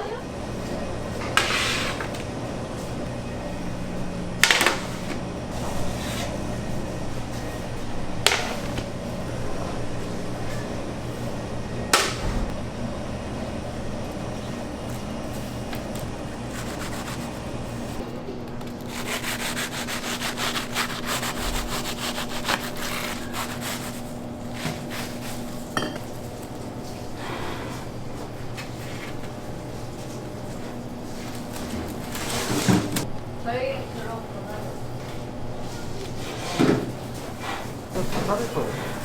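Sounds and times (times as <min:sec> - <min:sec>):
steady low hum: 0:00.0 - 0:32.3.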